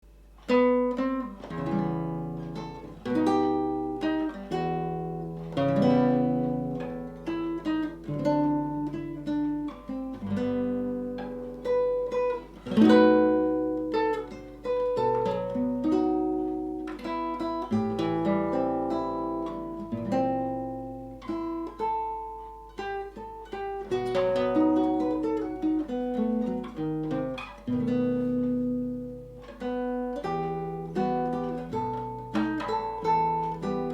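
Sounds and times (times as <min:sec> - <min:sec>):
solo acoustic guitar: 0:00.0 - 0:33.9.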